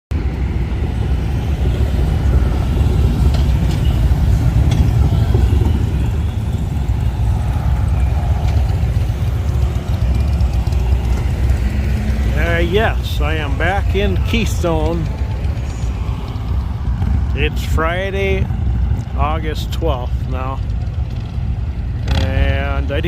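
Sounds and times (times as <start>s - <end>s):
motorcycle engine running: 0.2s - 23.0s.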